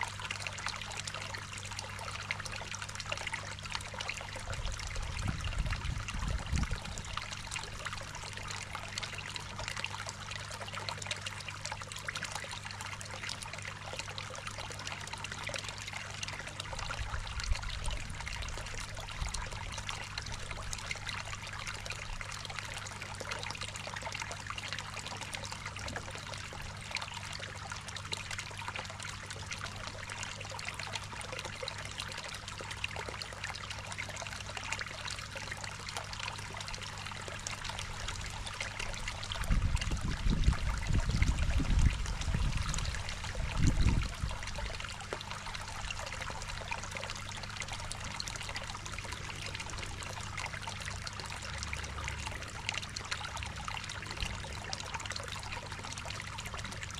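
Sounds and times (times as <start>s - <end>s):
water trickling into pond: 0.0s - 56.9s.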